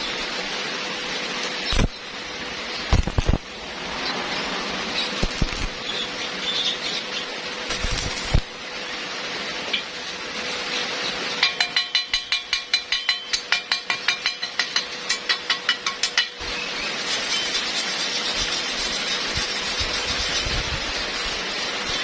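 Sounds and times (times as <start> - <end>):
steady sizzling hiss: 0.0 - 22.0.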